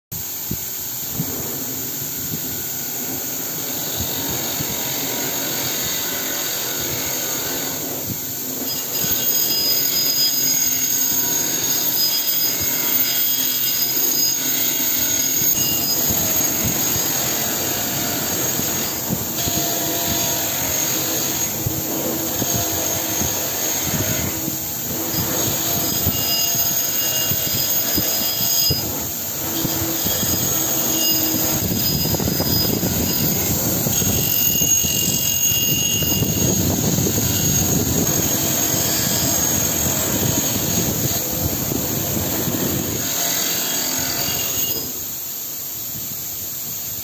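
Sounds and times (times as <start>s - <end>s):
wire wheel grinding steel: 0.2s - 45.6s.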